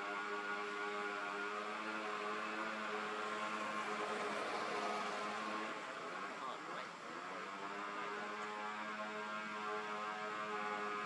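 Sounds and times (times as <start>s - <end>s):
droning hum of held tones: 0.0s - 11.0s.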